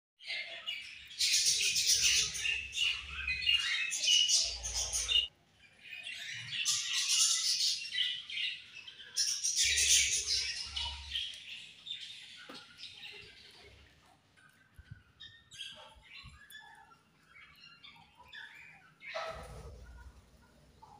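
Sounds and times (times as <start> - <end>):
budgerigars chattering and chirping: 0.2 - 20.9.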